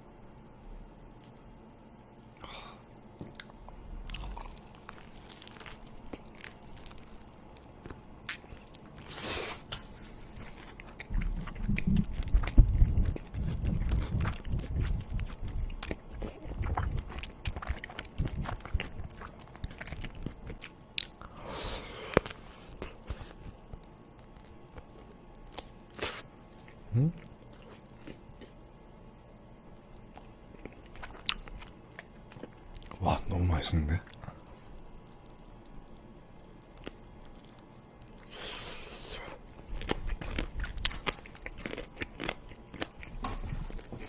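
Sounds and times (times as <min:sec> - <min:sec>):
person chewing food: 0:02.3 - 0:28.6, 0:29.7 - 0:33.0, 0:34.0 - 0:44.0.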